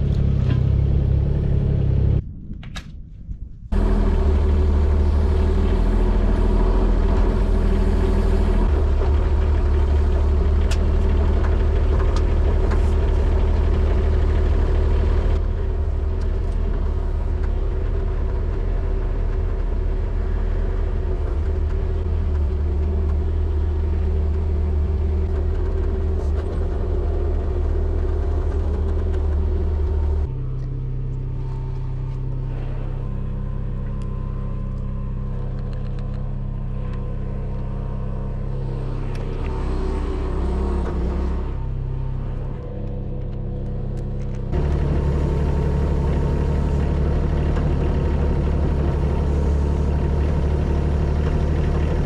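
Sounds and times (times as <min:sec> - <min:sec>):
mini excavator engine running: 0:03.8 - 0:52.0.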